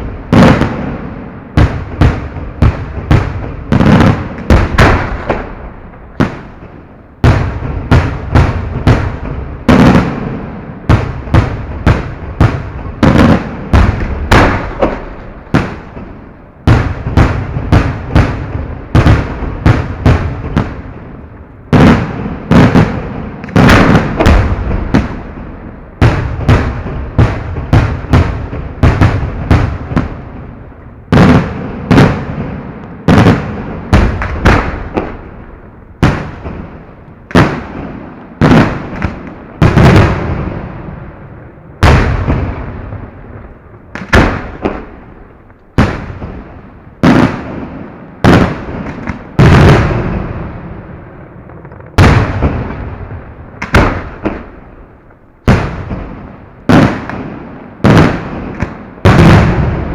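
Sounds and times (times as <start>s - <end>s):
fireworks bangs with echo: 0.0s - 59.9s.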